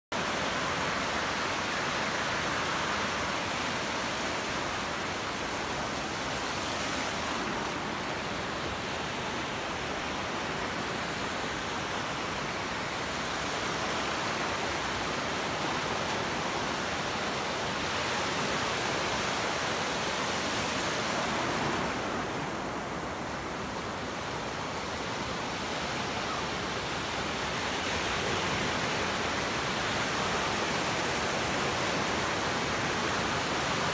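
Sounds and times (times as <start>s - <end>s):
ocean surf breaking: 0.2s - 33.9s.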